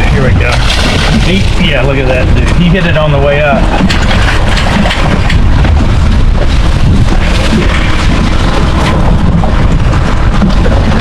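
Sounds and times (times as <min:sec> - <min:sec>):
water and boat noise: 0:00.0 - 0:11.0
wind buffeting microphone: 0:00.0 - 0:11.0.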